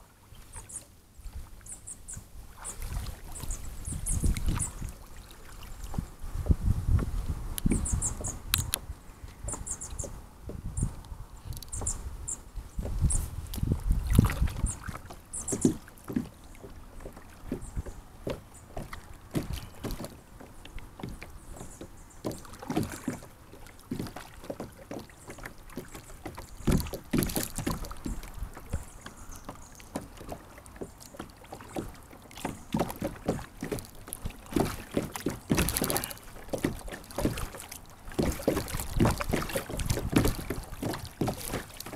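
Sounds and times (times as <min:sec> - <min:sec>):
paddle splashes and drips: 0:00.0 - 0:41.9
water lapping against hull: 0:00.0 - 0:41.9.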